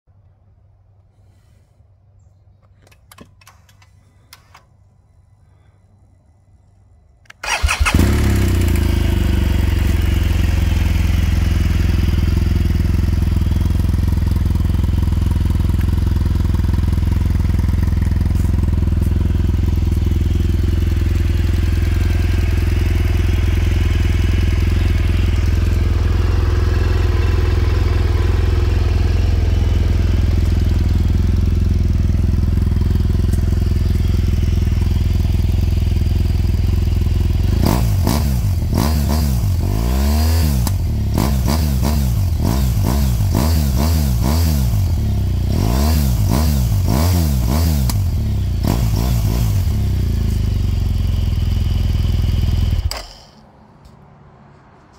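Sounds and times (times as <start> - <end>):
motorcycle engine starting and idling: 2.6 - 5.8, 7.2 - 54.0.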